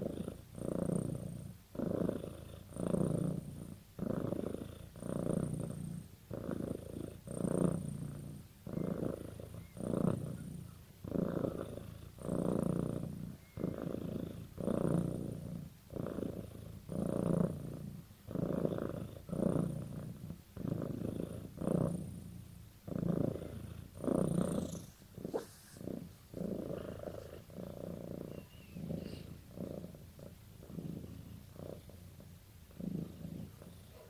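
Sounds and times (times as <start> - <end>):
cat purring: 0.0 - 34.0.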